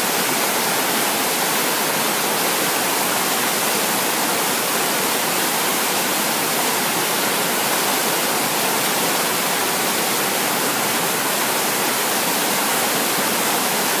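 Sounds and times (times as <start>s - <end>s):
river rapids rushing over rocks: 0.0s - 14.0s.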